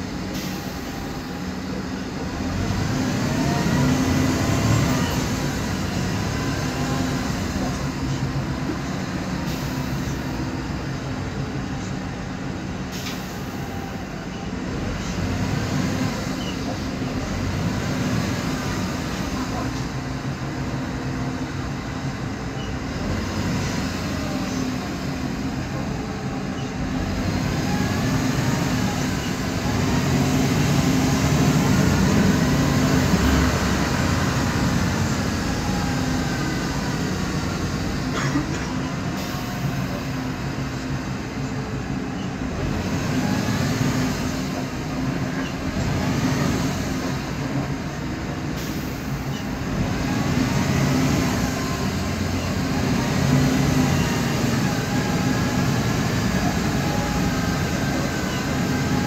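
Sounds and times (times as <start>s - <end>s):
bus drivetrain whine: 0.0s - 59.0s
bus engine rumble: 0.0s - 59.0s.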